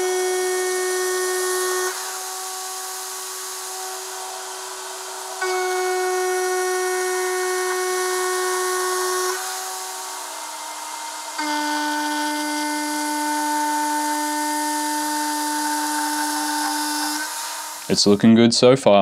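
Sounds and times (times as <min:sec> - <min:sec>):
milling machine high-pitched whine: 0:00.0 - 0:18.4
spindle whine: 0:00.0 - 0:18.7.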